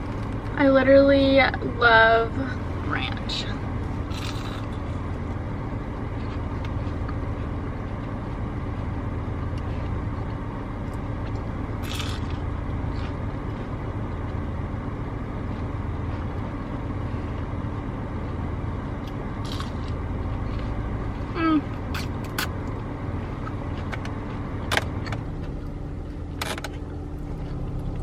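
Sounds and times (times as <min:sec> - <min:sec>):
car idling inside cabin: 0:00.0 - 0:28.0.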